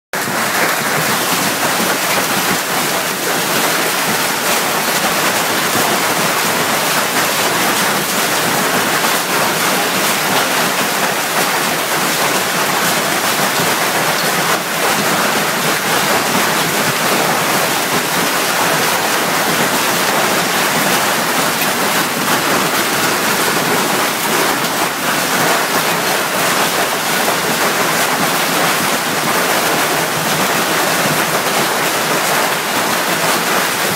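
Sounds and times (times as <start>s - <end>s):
hail clattering on hard surfaces: 0.2s - 33.9s
hail splashing into water: 0.2s - 33.9s.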